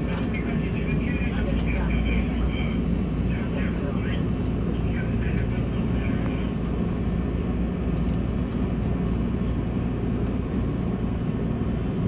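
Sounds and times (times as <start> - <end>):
train interior hum and rush: 0.0 - 12.0.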